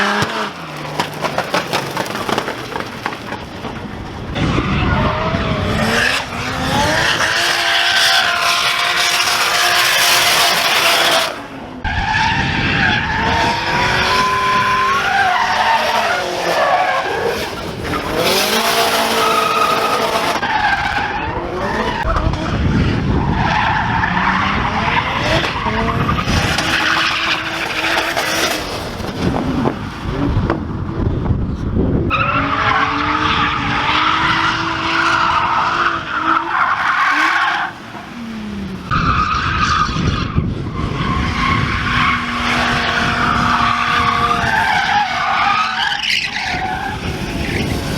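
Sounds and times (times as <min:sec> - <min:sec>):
tyres skidding and squealing: 0:00.0 - 0:30.7, 0:31.5 - 0:47.9
car engines revving: 0:00.0 - 0:47.9.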